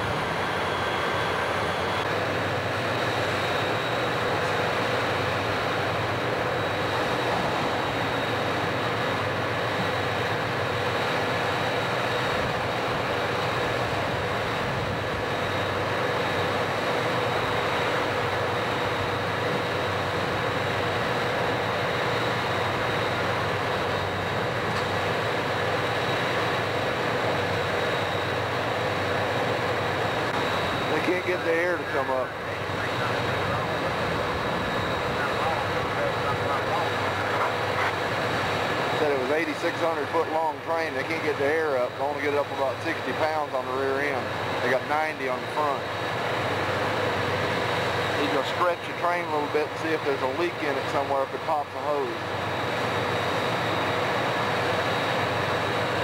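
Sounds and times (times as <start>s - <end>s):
locomotive engines droning: 0.0s - 56.0s.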